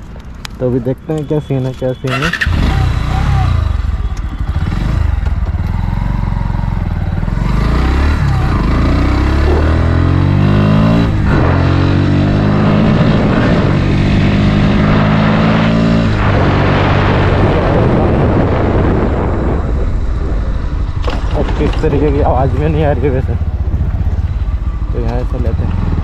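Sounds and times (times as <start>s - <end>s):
motorcycle engine revving: 2.0s - 26.0s.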